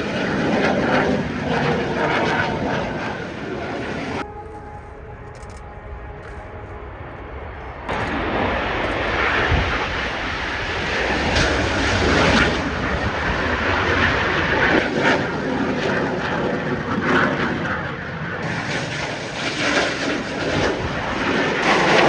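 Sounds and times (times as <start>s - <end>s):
jets flying overhead: 0.0s - 22.0s.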